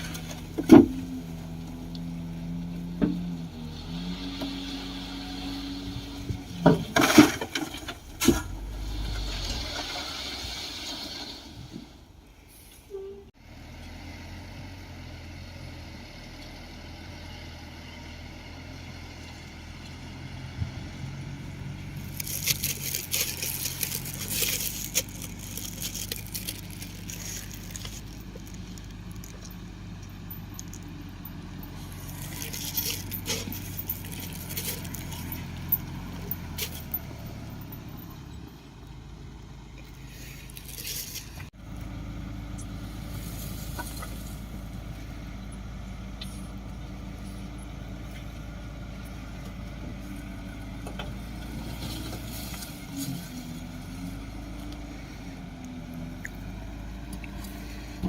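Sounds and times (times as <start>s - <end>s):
bulldozer scraping and clattering: 0.0s - 12.9s, 18.6s - 38.9s, 39.8s - 58.0s
bulldozer diesel engine running: 0.0s - 58.0s.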